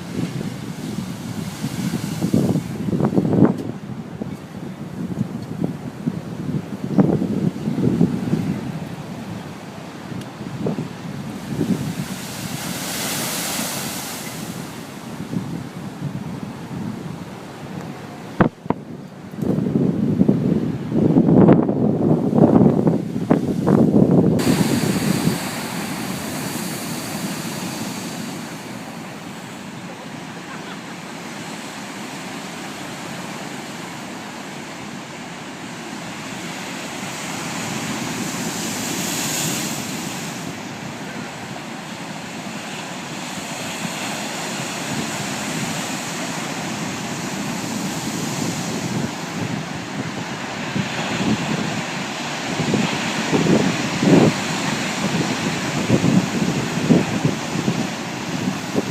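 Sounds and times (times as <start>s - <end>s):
wind on microphone: 0.0s - 30.8s, 35.6s - 58.9s
waves breaking: 0.0s - 58.9s.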